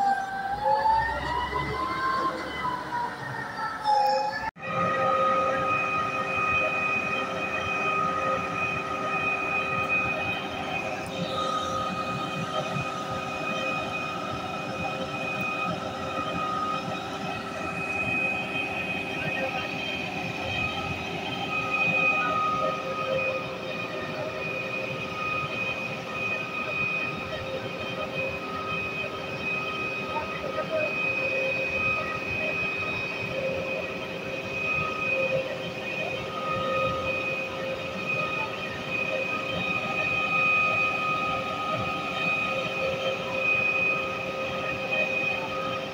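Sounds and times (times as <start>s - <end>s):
concrete pump mechanical drone: 0.0s - 45.9s
high mechanical whine: 0.0s - 45.9s.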